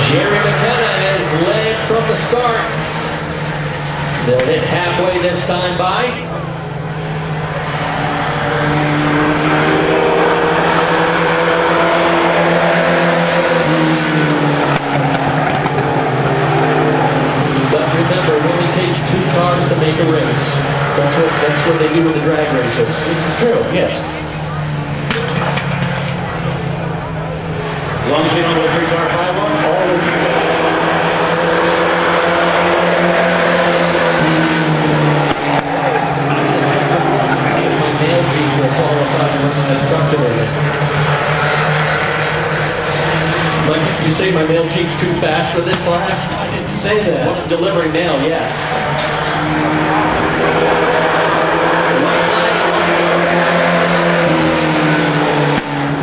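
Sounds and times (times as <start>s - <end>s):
racing truck engines: 0.0s - 56.0s.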